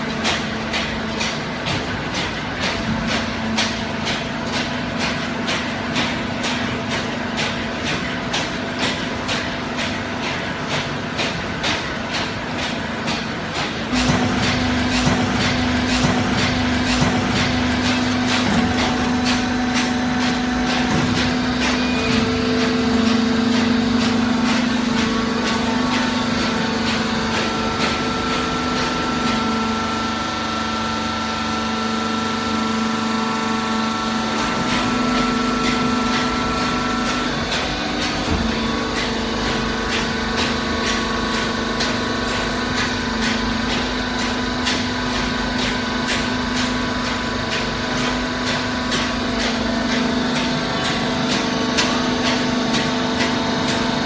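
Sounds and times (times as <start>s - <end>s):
machine clicks and knocks: 0.0s - 54.0s
motor and pump hum: 0.0s - 54.0s.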